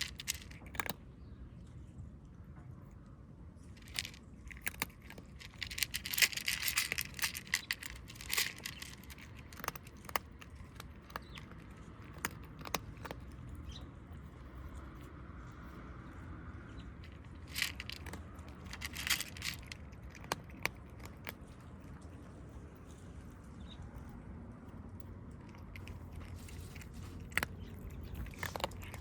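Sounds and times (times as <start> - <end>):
dry cat food rattling: 0.0 - 1.2, 3.6 - 29.0.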